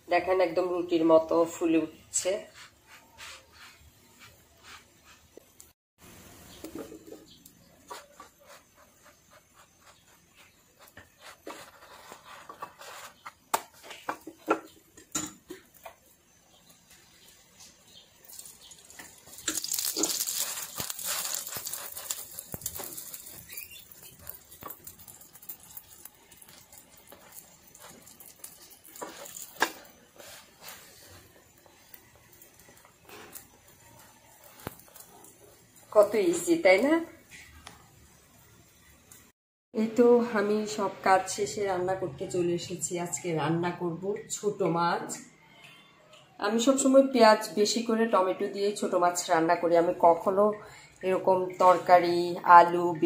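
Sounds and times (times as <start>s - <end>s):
dough sizzling: 0.0s - 41.7s, 46.5s - 53.0s.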